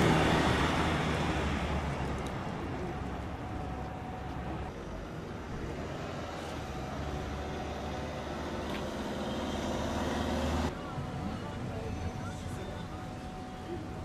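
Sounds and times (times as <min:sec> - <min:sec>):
low rumble of road traffic: 0:00.0 - 0:14.0.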